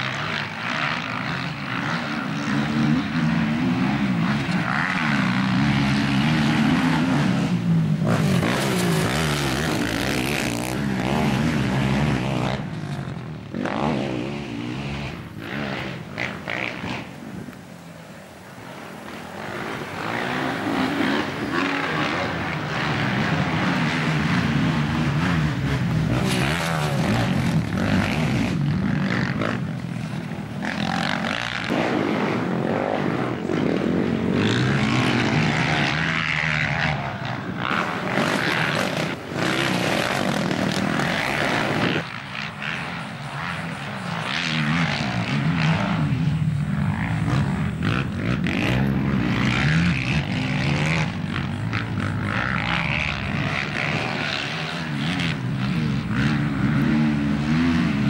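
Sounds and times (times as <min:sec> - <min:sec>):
quad bike engines revving: 0:00.0 - 0:58.0.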